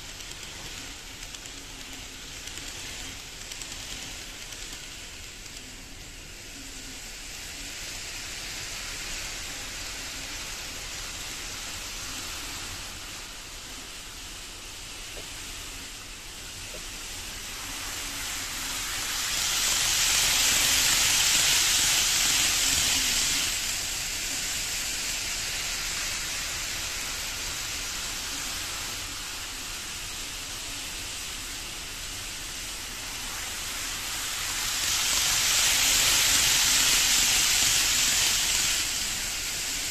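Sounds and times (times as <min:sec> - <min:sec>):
model train wheels rolling on rails: 0:00.0 - 0:39.9.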